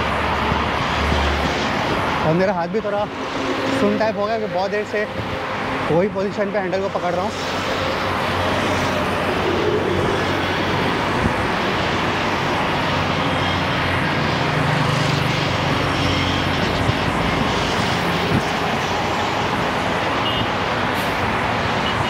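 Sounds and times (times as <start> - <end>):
heavy highway traffic roar: 0.0 - 22.0.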